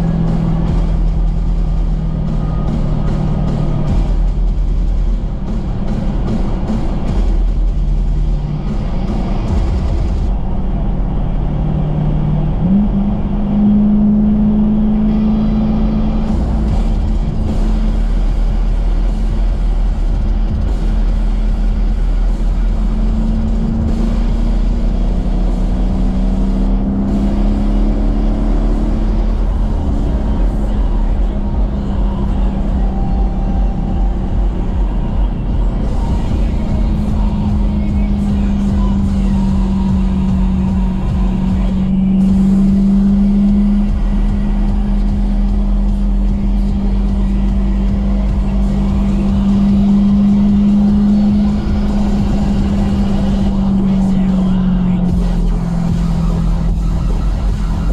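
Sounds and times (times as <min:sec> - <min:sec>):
car engine and exhaust droning: 0:00.0 - 0:57.9
music: 0:00.0 - 0:57.9.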